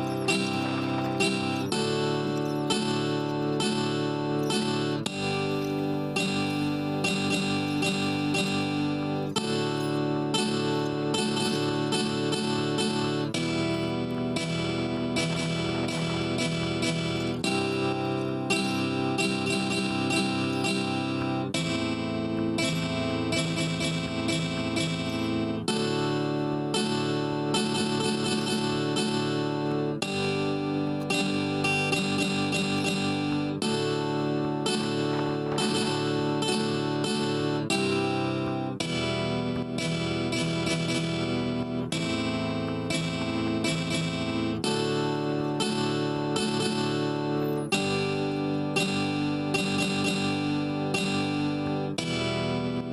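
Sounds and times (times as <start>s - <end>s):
plucked string instrument music: 0.0s - 52.9s.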